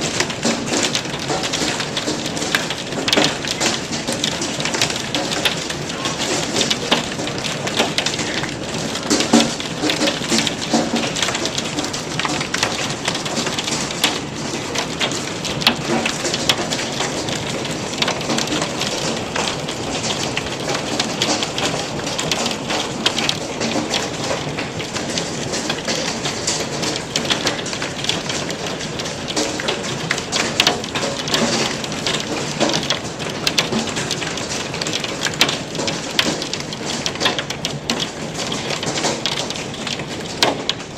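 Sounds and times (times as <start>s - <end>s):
hail and rain pelting: 0.0s - 40.9s.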